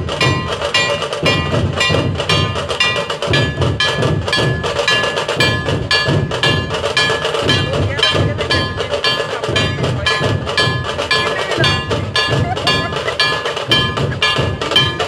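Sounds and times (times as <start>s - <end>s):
deep drum pulse: 0.0s - 15.0s
struck metal bell-like ringing: 0.0s - 15.0s.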